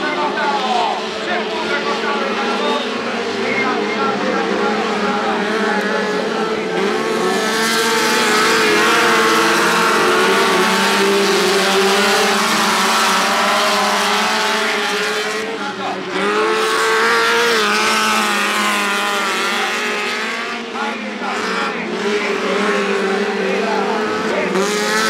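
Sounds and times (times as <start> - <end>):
race car engines at high revs: 0.0 - 25.0.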